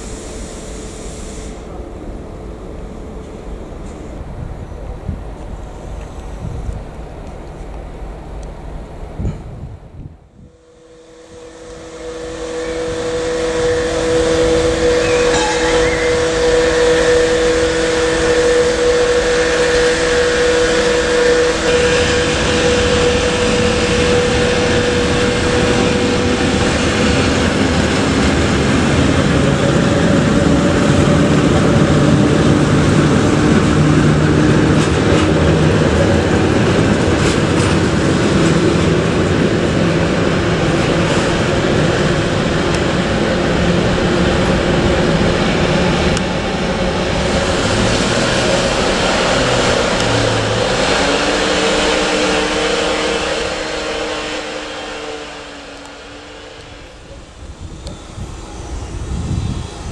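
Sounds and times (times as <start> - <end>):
train rumbling past: 0.0 - 59.9
wheel and rail noise: 0.0 - 59.9
two-tone whine: 10.0 - 59.9.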